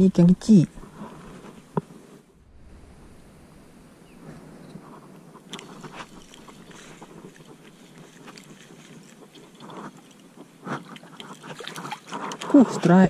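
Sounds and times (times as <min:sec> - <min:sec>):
low rustling hiss: 0:00.0 - 0:12.1.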